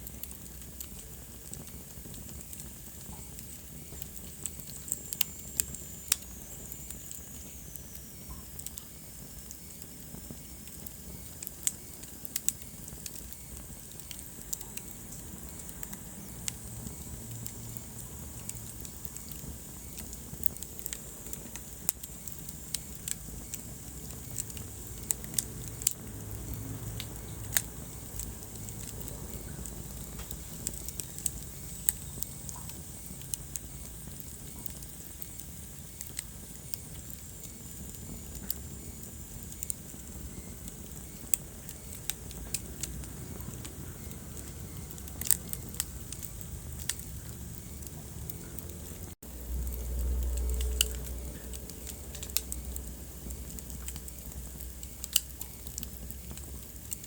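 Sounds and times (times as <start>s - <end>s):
faint high whine: 0.0s - 57.0s
low rumble of flames: 0.0s - 57.0s
wood fire crackling and popping: 0.0s - 57.0s.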